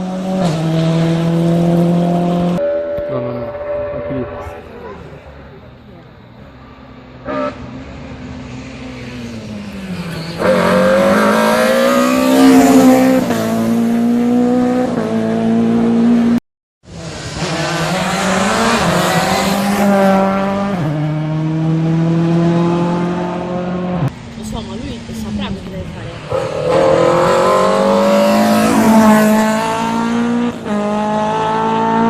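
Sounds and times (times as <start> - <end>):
rally car engine revving past: 0.0 - 4.6, 6.6 - 24.1, 26.2 - 32.0
second rally car engine revving: 0.0 - 5.0, 6.6 - 24.1, 26.2 - 32.0.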